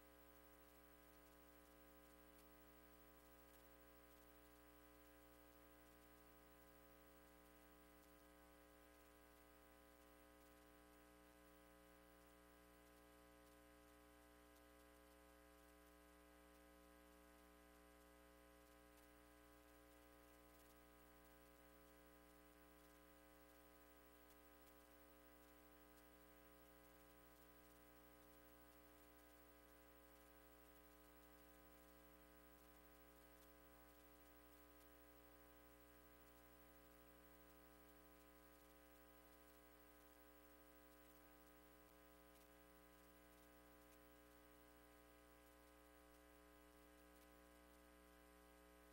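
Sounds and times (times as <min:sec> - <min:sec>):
faint electrical hum: 0:00.0 - 0:48.9
low hiss: 0:00.0 - 0:48.9.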